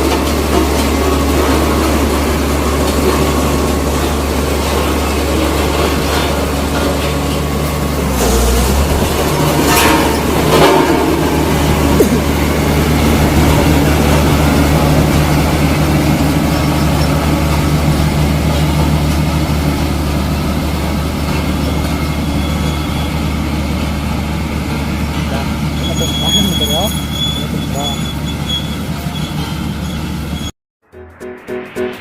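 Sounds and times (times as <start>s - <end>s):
heavy diesel engine humming: 0.0s - 30.5s.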